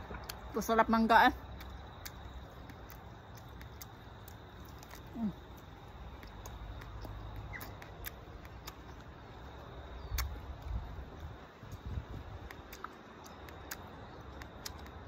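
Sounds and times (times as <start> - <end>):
chewing crisp fruit: 0.0 - 15.0
steady low rumble: 0.0 - 15.0.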